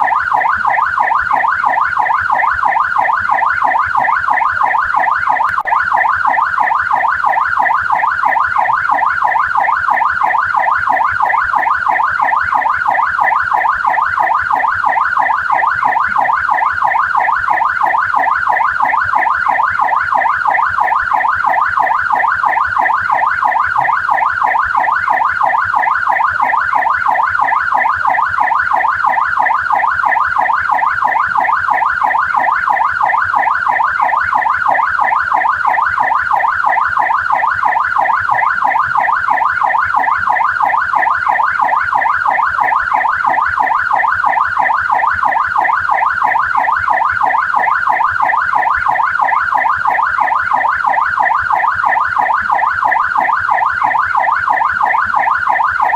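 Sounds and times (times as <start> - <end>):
police siren yelping: 0.0 - 55.9.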